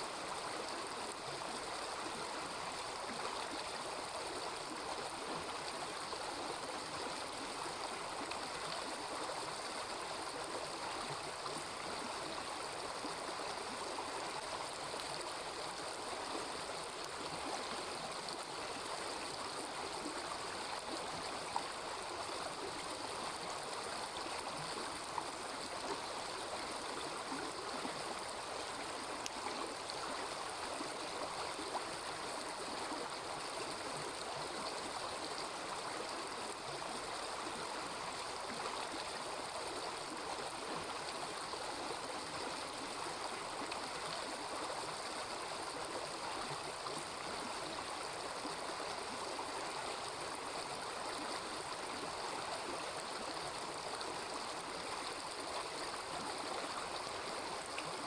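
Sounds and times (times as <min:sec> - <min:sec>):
small river babbling: 0:00.0 - 0:58.0.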